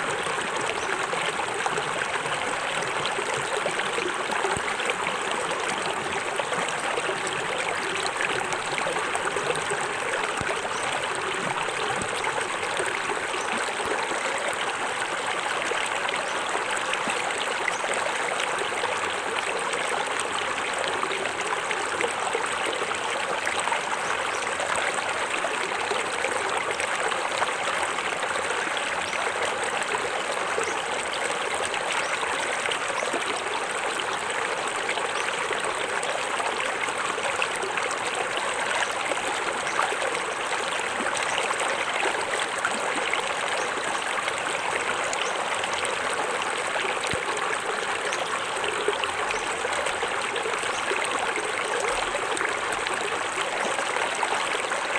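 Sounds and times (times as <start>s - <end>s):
water running over rocks: 0.0s - 54.9s.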